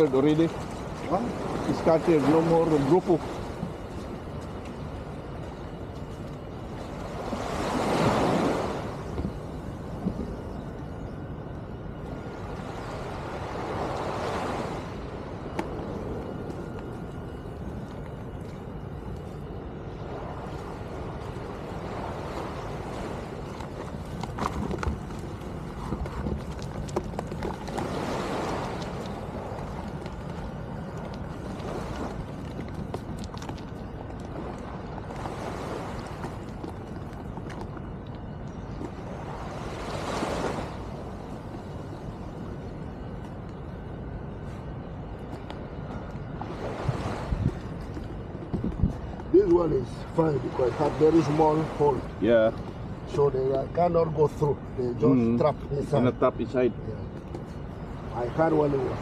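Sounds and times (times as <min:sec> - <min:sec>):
wind on microphone: 0:00.0 - 0:53.1
waves washing onto shore: 0:00.0 - 0:59.0.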